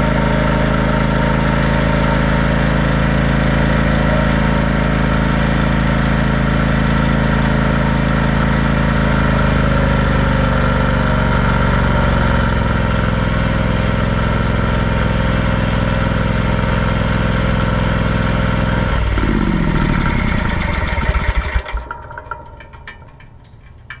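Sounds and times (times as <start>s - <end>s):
engine winding down: 0.0s - 24.0s
lawn tractor engine running: 0.0s - 24.0s.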